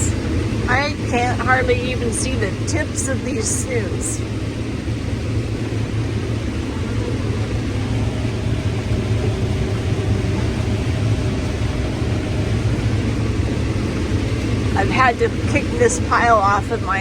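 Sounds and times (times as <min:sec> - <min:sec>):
combine harvester rumble: 0:00.0 - 0:17.0.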